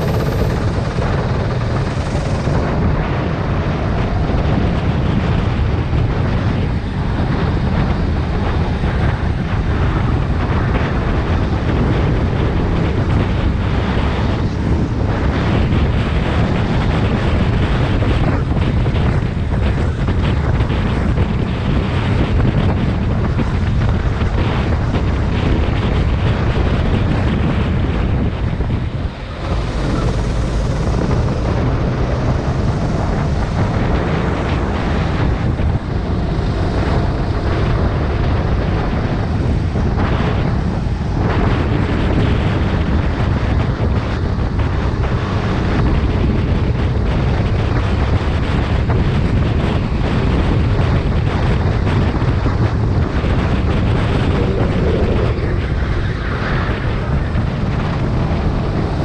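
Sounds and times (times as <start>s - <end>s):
go-kart engine running: 0.0s - 59.0s
wind buffeting microphone: 0.0s - 59.0s.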